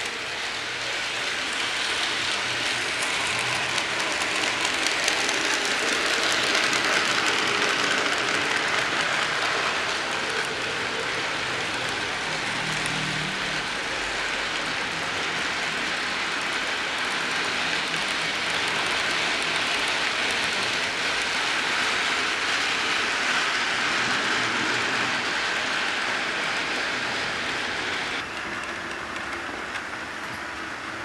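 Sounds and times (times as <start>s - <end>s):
model train cars rolling on rails: 0.0s - 31.0s.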